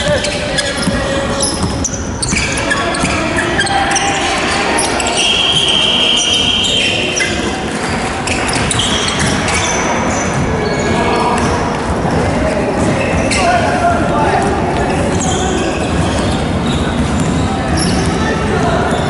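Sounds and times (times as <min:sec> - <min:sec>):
sneakers squeaking on court: 0:00.0 - 0:11.7, 0:14.9 - 0:19.0
players' voices: 0:00.0 - 0:19.0.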